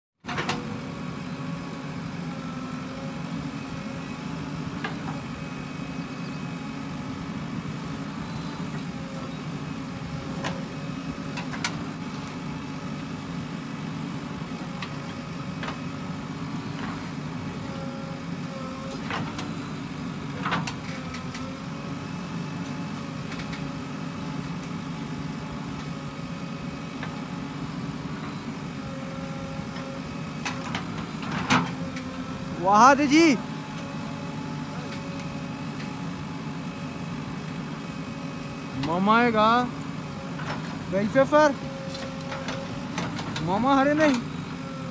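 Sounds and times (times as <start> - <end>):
diesel engine running: 0.2 - 44.9.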